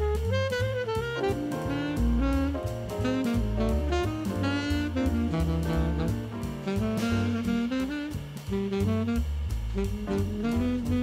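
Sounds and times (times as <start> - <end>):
jazz background music: 0.0 - 11.0.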